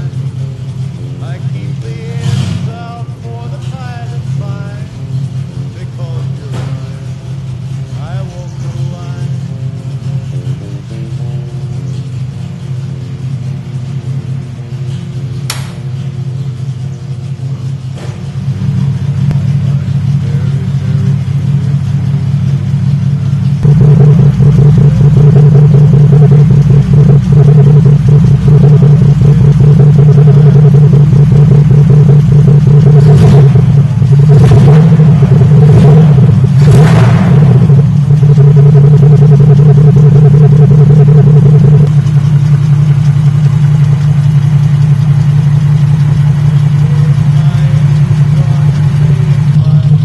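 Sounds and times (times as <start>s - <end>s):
car engine idling: 0.0s - 50.0s
engine throttle blips: 0.0s - 50.0s.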